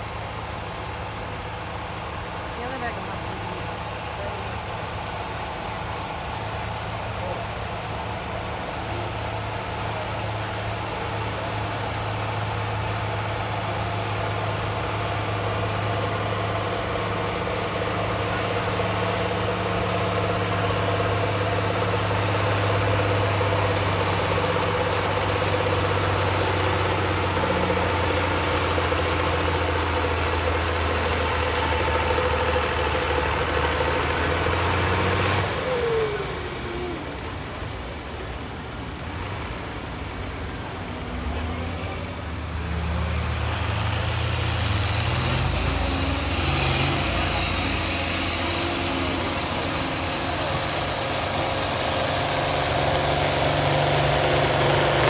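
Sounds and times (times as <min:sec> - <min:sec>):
tractor engine under load: 0:00.0 - 0:55.0.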